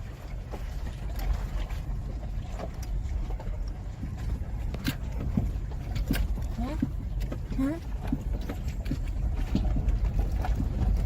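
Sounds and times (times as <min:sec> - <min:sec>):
truck rumbling over rough trail: 0:00.0 - 0:11.0.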